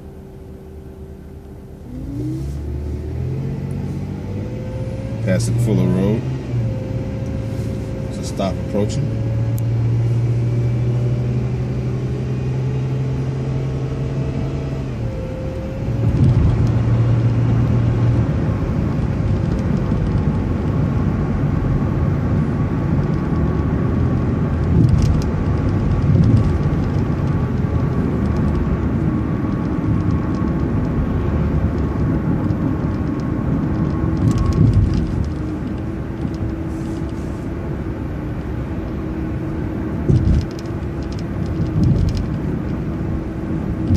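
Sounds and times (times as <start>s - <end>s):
bus engine running: 0.0s - 43.9s
whining drivetrain tones: 0.0s - 43.9s.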